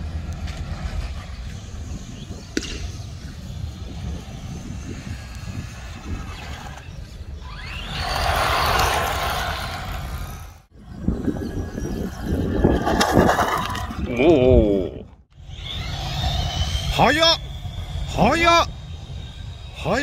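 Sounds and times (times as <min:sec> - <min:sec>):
radio-controlled car passing: 0:00.0 - 0:14.1, 0:15.4 - 0:20.0.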